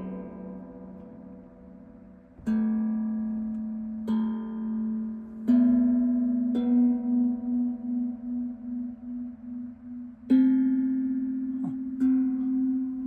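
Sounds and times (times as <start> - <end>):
steel tongue drum notes: 0.0 - 13.0.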